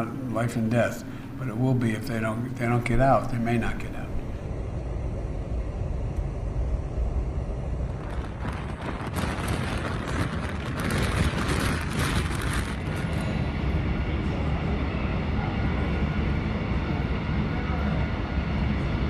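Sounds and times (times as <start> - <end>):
vehicle low rumble: 0.0 - 19.0.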